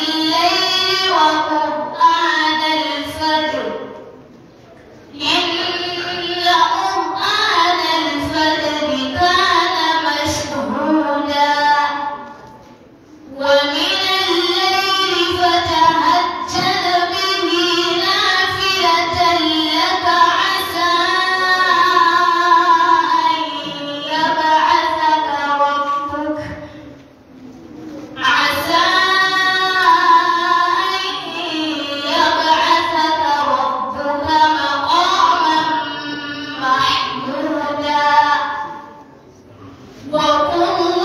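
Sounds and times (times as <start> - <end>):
girl chanting recitation: 0.0 - 4.2, 5.1 - 12.4, 13.2 - 27.0, 28.2 - 39.1, 40.0 - 41.0.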